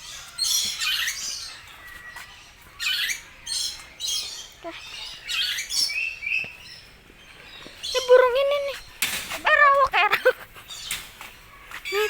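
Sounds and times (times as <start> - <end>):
birds squawking: 0.0 - 12.0.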